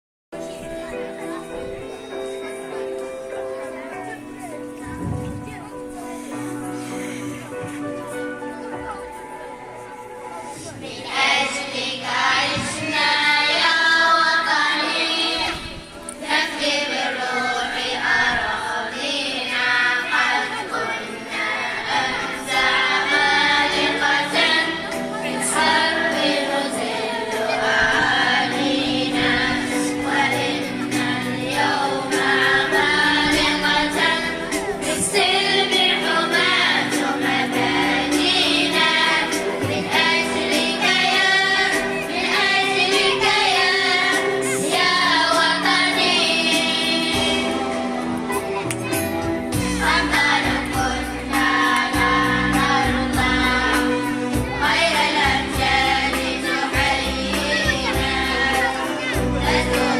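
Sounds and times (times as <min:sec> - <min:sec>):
choir singing: 0:08.1 - 0:48.6, 0:49.5 - 0:59.9.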